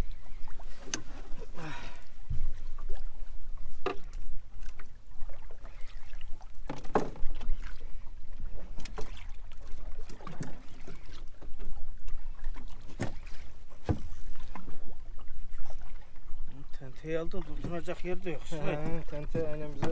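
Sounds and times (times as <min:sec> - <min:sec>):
wind and water rumble: 0:00.0 - 0:19.9.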